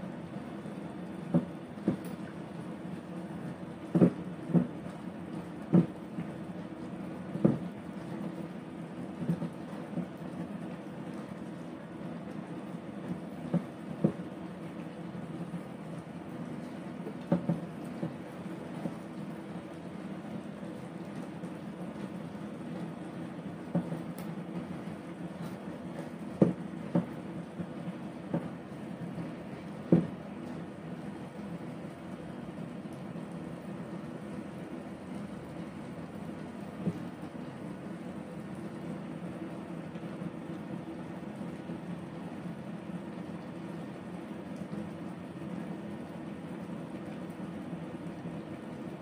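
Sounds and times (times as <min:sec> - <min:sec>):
food simmering in a frying pan: 0:00.0 - 0:49.0
steady background hum: 0:00.0 - 0:49.0.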